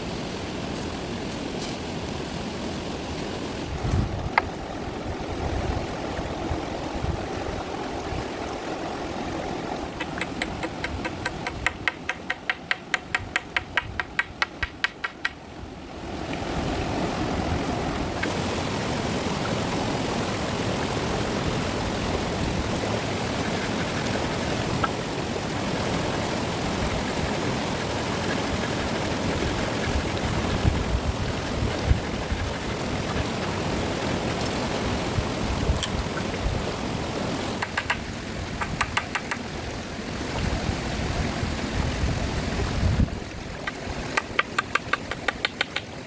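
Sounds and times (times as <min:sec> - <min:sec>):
rushing river water: 0:00.0 - 0:46.0.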